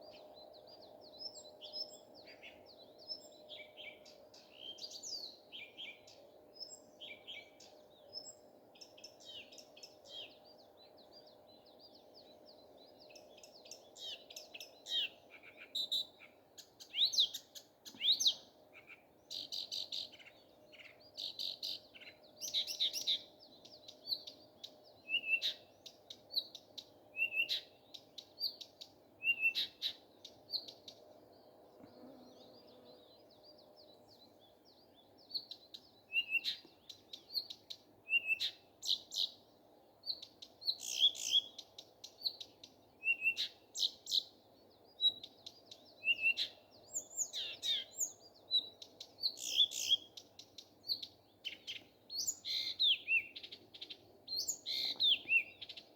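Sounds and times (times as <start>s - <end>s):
nightingale singing: 0.0s - 31.5s, 32.3s - 55.9s.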